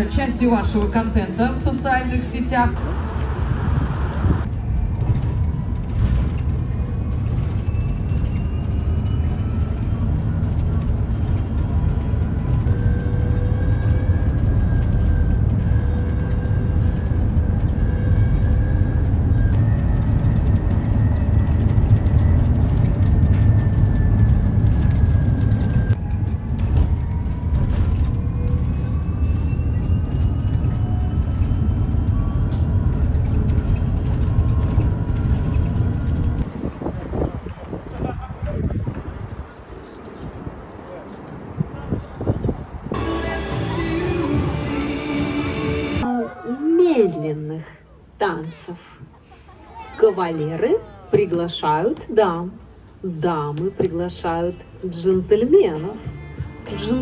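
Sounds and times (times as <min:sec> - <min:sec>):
boat engine rumble: 0:00.0 - 0:49.8.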